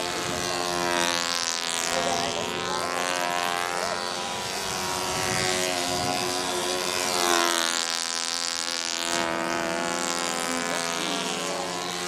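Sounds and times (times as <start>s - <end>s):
model airplane engines buzzing: 0.0s - 12.0s.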